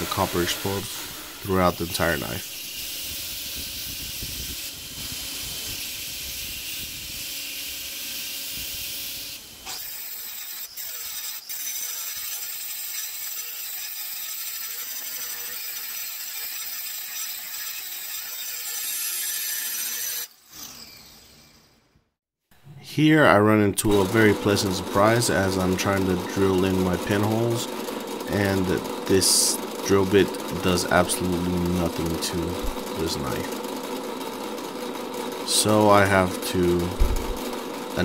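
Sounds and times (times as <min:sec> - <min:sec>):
angle grinder grinding metal: 0:00.0 - 0:21.8, 0:23.8 - 0:38.0
belt grinder grinding metal: 0:00.0 - 0:21.8, 0:23.8 - 0:38.0.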